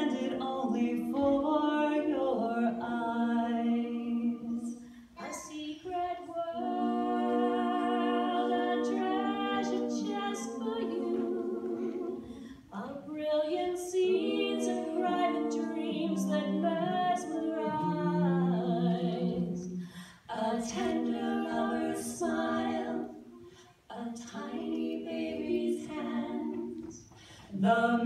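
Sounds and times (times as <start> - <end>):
women singing in harmony: 0.0 - 28.0.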